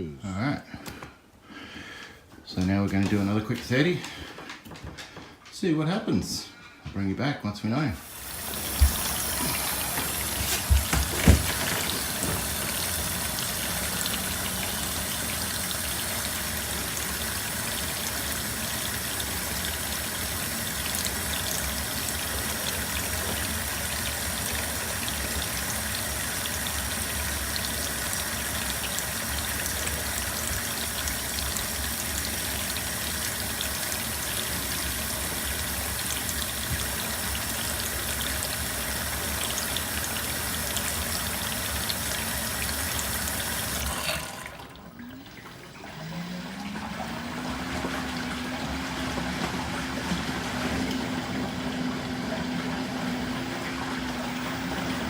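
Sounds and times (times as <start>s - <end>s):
dishwasher water spraying: 8.0s - 55.0s.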